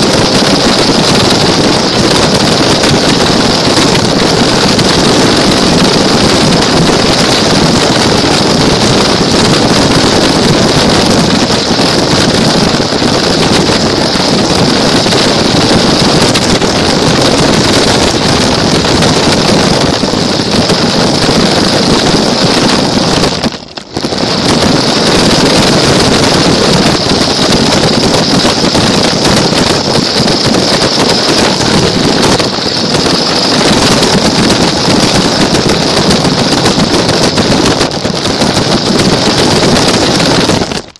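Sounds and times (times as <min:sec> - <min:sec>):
toy car motor rattle and whine: 0:00.0 - 0:40.9.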